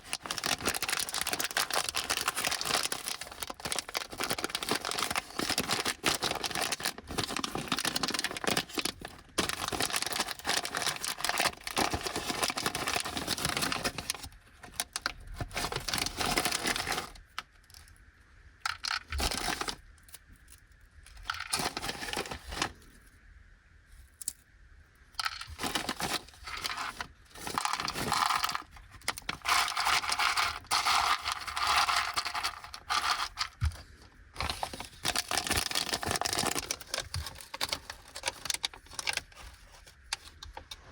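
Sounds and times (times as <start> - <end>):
plastic snack bag crinkling: 0.0 - 17.5, 18.7 - 19.8, 21.1 - 22.8, 25.2 - 40.6.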